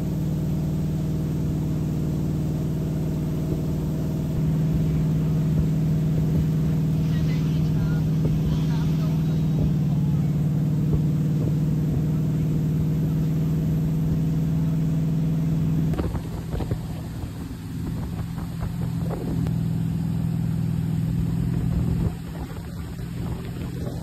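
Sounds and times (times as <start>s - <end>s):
boat engine running: 0.0s - 24.0s
water rushing: 0.0s - 24.0s.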